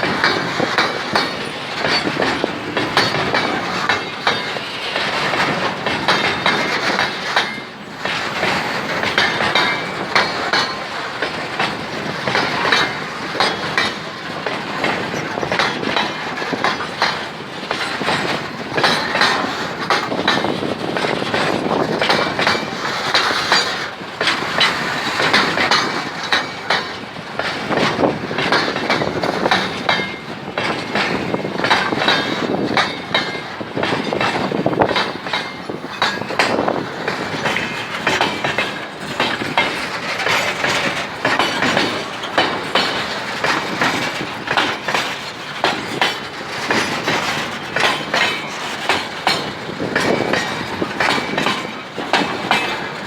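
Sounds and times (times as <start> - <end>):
train wheels clacking on rails: 0.0 - 53.0.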